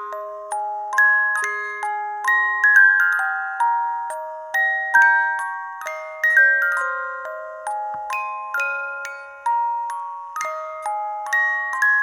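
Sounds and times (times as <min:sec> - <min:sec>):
glockenspiel lullaby melody: 0:00.0 - 0:12.0.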